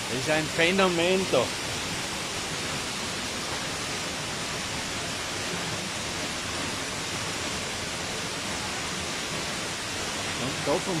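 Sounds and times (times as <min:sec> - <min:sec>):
waterfall rushing and splashing: 0:00.0 - 0:11.0.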